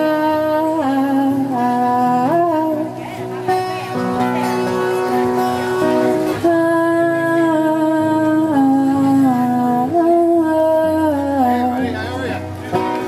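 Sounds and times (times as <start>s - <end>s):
guitar and bass accompaniment: 0.0s - 13.0s.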